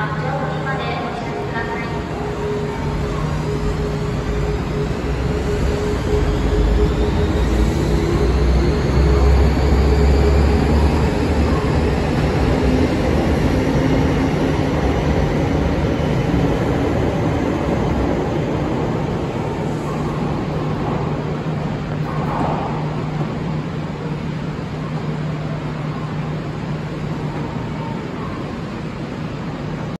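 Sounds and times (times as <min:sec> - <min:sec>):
faint rising whine: 0:01.3 - 0:29.0.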